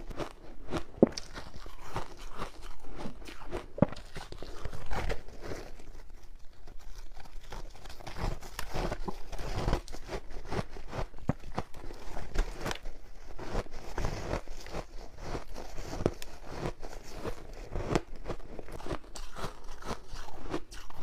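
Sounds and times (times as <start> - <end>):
person chewing crunchy ice: 0.0 - 21.0.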